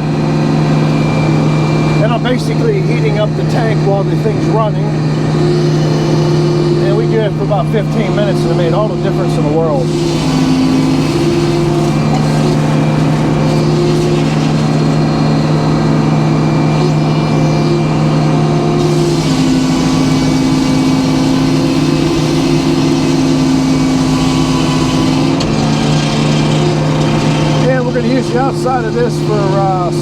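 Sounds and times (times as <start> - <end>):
higher machine tone: 0.0 - 30.0
low engine drone: 0.0 - 30.0.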